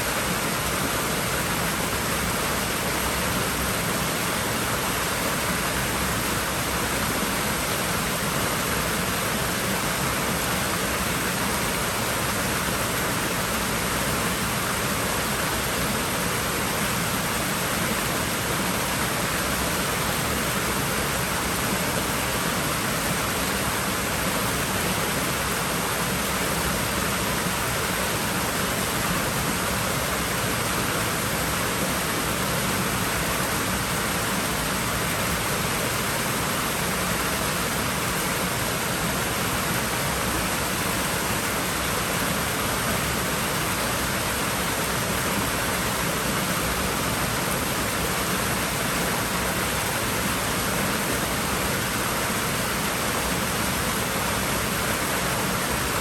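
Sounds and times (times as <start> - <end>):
rushing water in a pool: 0.0 - 56.0.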